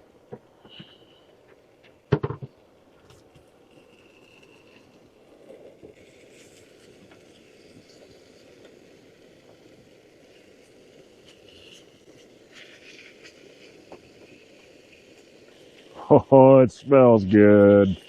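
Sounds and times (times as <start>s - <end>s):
bacon sizzling in a frying pan: 3.0s - 18.0s.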